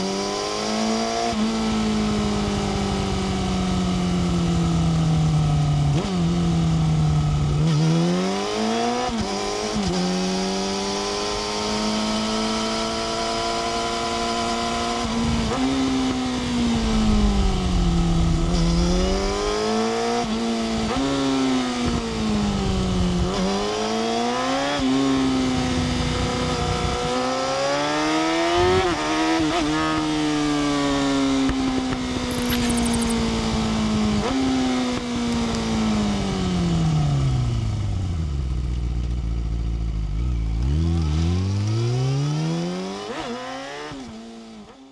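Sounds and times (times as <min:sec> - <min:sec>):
motorcycle engine revving: 0:00.6 - 0:44.0.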